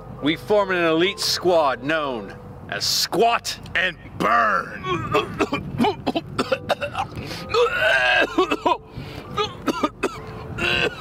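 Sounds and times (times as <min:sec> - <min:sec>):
music: 0:00.0 - 0:03.0, 0:05.1 - 0:11.0.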